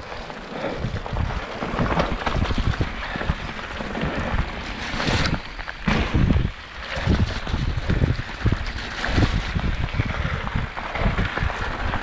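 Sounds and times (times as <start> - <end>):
bike knocking and rattling: 0.0 - 12.0
wind rushing over microphone: 0.0 - 12.0.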